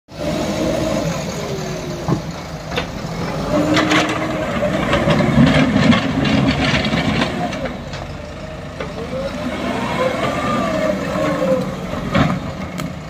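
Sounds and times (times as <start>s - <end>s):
diesel engines under load: 0.1s - 13.0s.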